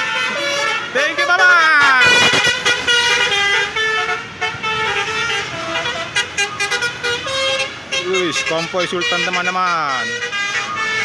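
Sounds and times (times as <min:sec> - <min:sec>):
bus engine: 0:00.0 - 0:11.0
bus horn playing a multi-note tune: 0:00.0 - 0:11.0
road noise: 0:00.0 - 0:11.0.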